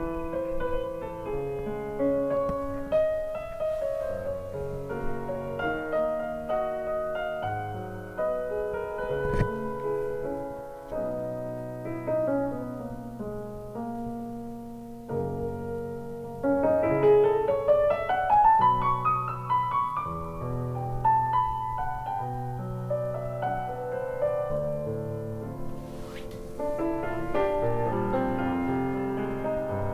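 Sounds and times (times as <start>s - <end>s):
solo piano music: 0.0s - 29.9s.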